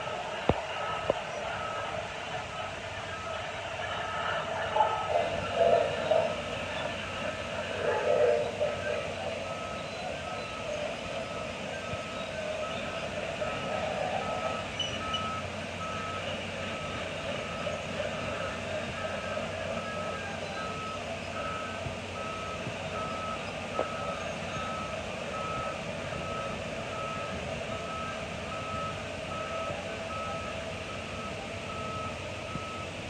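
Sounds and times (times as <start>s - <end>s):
backup alarm beeping: 4.1s - 19.0s, 19.7s - 32.9s.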